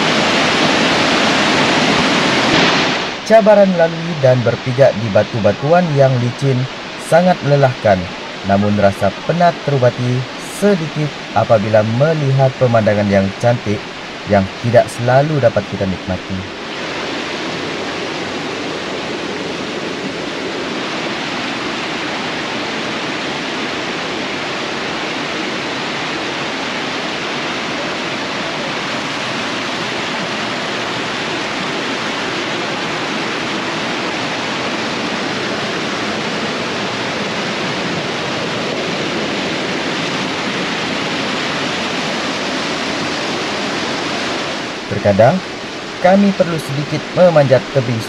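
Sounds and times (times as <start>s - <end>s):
river rushing over boulders: 0.0s - 48.0s.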